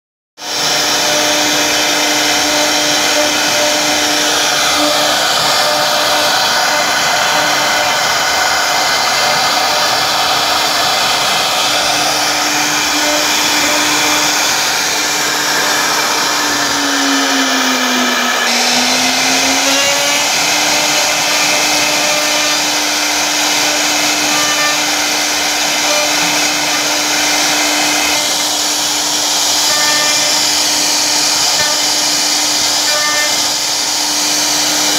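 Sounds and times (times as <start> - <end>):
wood router spindle whining: 0.4 - 34.9.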